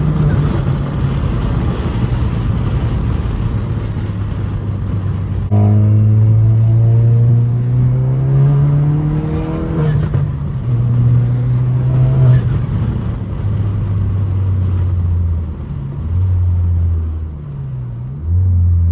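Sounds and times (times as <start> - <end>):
car engine accelerating hard: 0.0 - 18.9.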